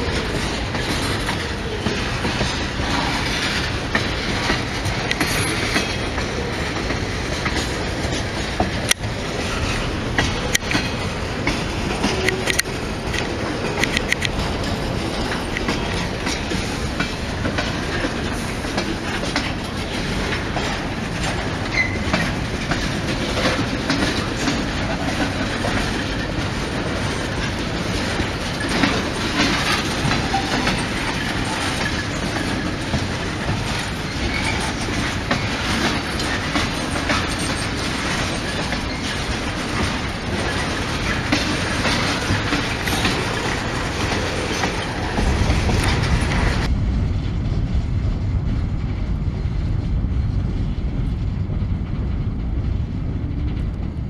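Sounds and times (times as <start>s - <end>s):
train wheels clattering: 0.0s - 54.0s.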